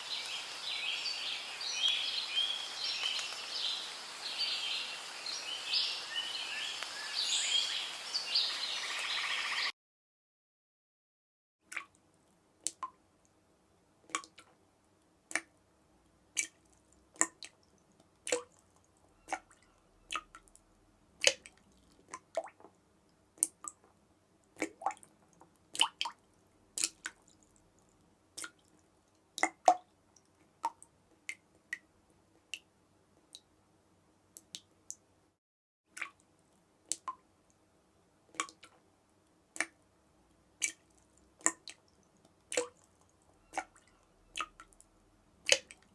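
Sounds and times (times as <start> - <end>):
water dripping: 0.0 - 8.3, 11.7 - 13.4, 14.1 - 14.6, 15.3 - 15.6, 16.3 - 33.5, 34.3 - 35.0, 35.9 - 37.7, 38.3 - 45.9.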